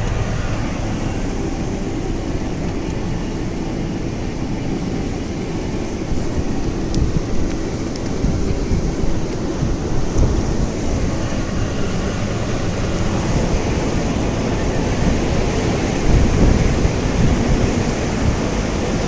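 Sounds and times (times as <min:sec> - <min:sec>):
strong blizzard wind: 0:00.0 - 0:19.0
wind gusts buffeting microphone: 0:00.0 - 0:19.0.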